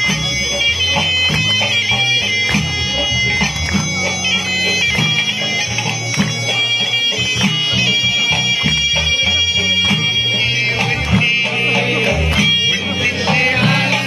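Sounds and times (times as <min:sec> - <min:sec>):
bagpipe melody with drone: 0:00.0 - 0:14.0
percussion beats: 0:00.0 - 0:14.0.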